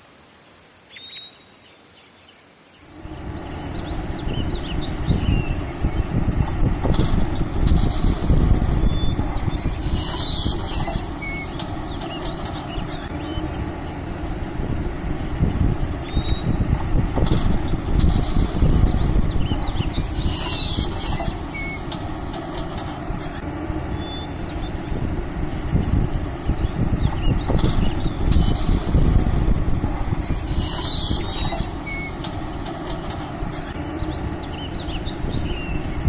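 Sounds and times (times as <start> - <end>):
low engine rumble: 2.8 - 36.0.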